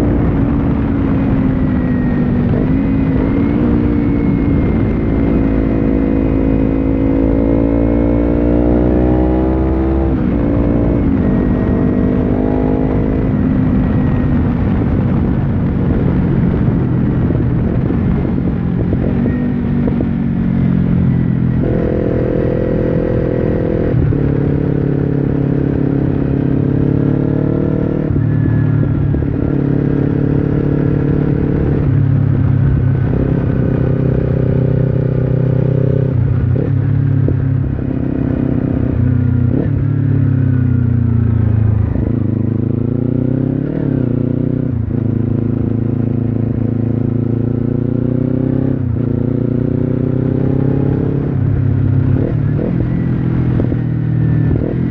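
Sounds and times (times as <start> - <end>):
motorcycle engine while riding: 0.0 - 54.9.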